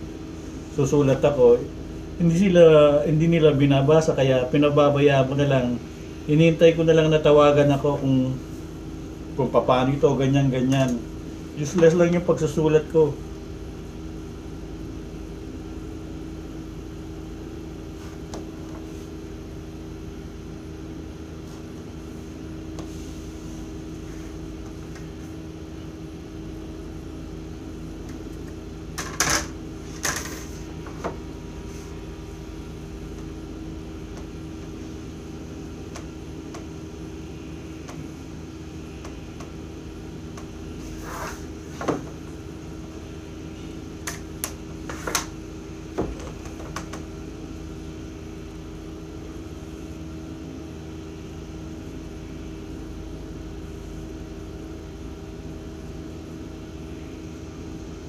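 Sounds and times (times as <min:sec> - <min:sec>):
mechanical room hum: 0:00.0 - 0:58.0.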